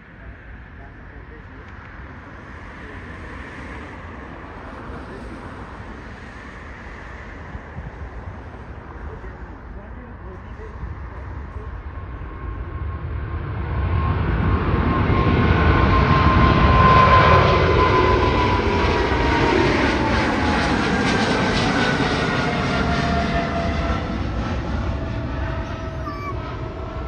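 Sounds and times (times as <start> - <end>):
jet engine rumble: 0.0 - 27.0.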